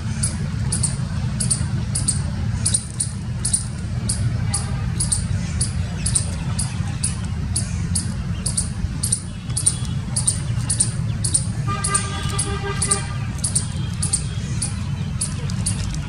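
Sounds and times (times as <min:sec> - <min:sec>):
squirrel calling in high chips: 0:00.1 - 0:16.0.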